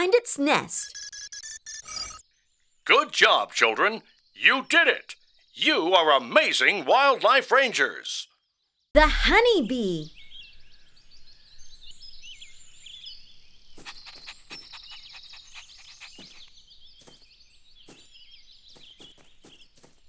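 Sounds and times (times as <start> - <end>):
birds chirping: 2.0 - 20.0.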